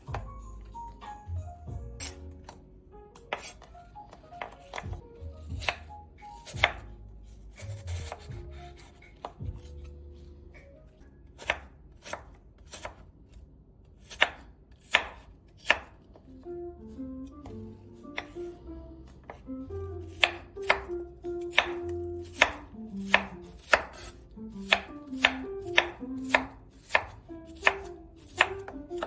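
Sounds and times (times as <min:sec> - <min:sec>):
knife chopping on cutting board: 0:00.0 - 0:00.3, 0:01.7 - 0:02.6, 0:03.2 - 0:10.0, 0:11.4 - 0:13.1, 0:14.0 - 0:16.4, 0:17.2 - 0:29.0
soft background music: 0:00.0 - 0:13.0, 0:14.0 - 0:29.0.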